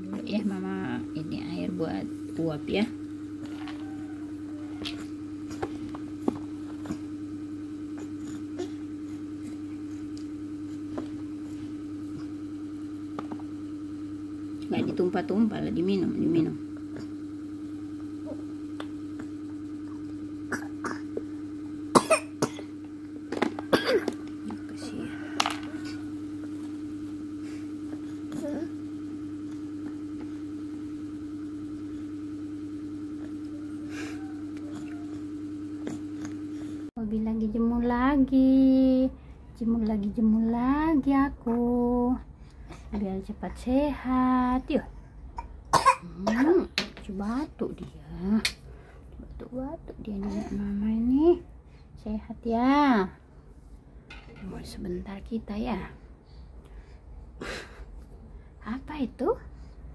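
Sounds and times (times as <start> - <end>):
small motor humming with pulsing: 0.0 - 45.2, 46.1 - 53.2.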